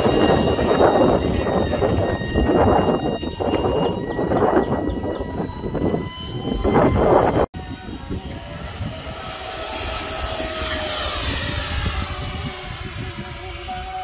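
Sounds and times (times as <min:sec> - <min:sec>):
gusty rushing noise: 0:00.0 - 0:14.0
model airplane motor whining: 0:00.0 - 0:14.0.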